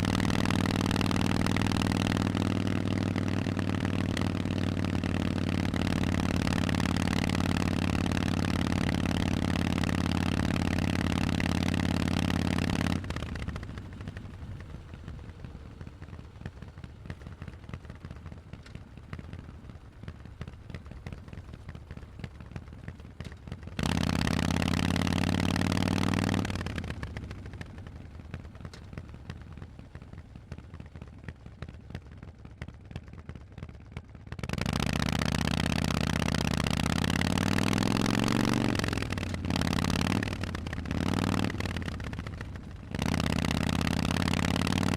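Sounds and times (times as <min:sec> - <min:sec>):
motorcycle engine revving: 0:00.0 - 0:31.7, 0:34.3 - 0:44.9.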